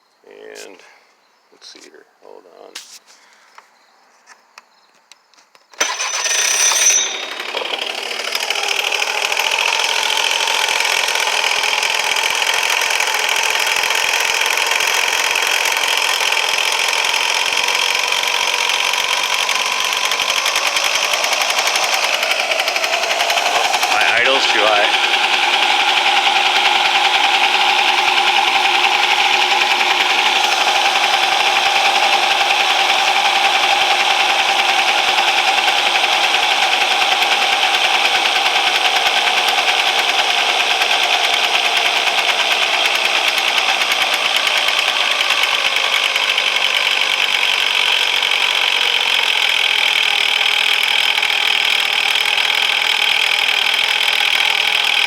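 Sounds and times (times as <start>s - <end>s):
scooter engine idling: 5.8s - 55.0s.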